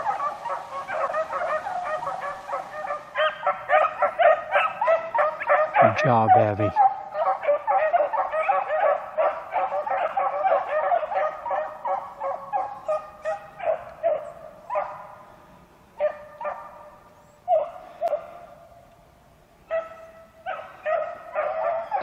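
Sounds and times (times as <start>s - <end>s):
beagles baying: 0.0s - 15.3s, 16.0s - 18.9s, 19.6s - 22.0s.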